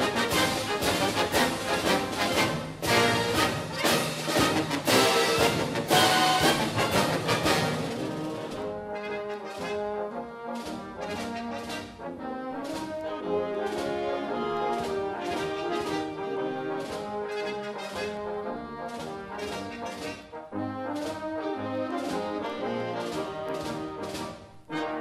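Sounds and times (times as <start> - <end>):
steady percussion beat: 0.0 - 8.8, 10.5 - 18.2, 18.9 - 24.6
orchestral music led by brass: 0.0 - 25.0.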